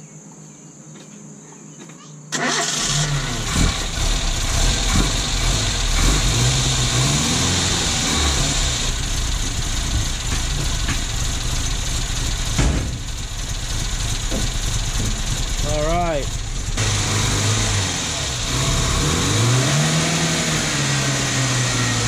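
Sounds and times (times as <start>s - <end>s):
car engine idling: 2.4s - 22.0s.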